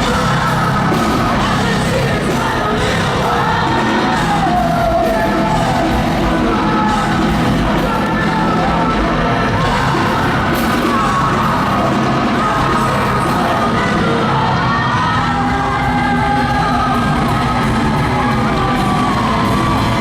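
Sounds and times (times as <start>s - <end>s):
person singing and yelling: 0.0s - 20.0s
rock band playing live: 0.0s - 20.0s.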